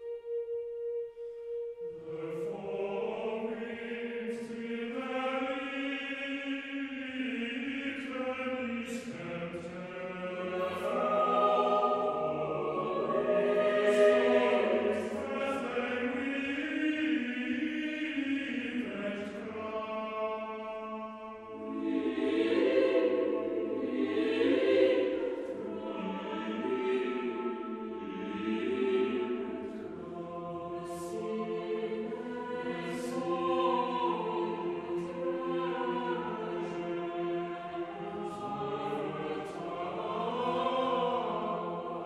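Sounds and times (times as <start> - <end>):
slow choral singing: 0.0 - 42.0.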